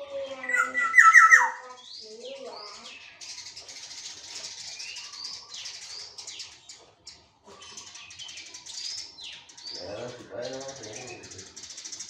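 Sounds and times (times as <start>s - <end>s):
fast high chirping chatter: 0.0s - 12.0s.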